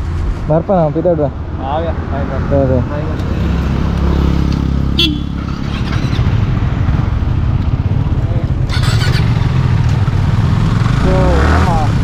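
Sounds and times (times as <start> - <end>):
motorcycle engine rumbling: 1.2 - 12.0.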